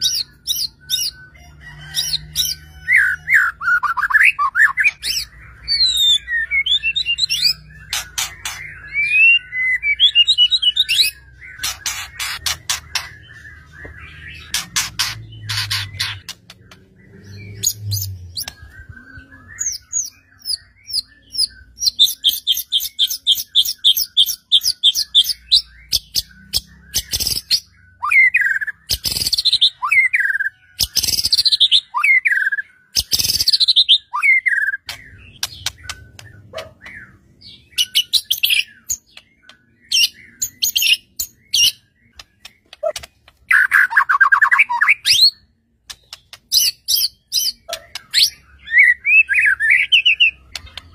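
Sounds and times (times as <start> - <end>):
songbird singing varied song: 0.0 - 50.9.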